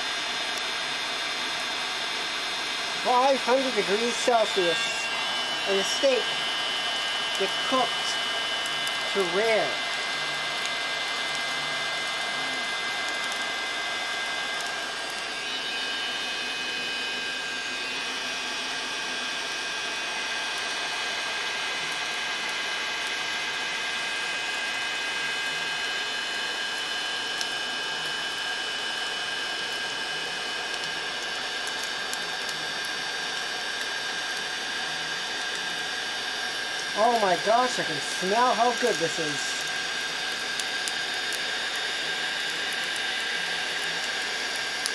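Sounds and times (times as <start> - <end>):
heat gun running with high whine: 0.0 - 44.9.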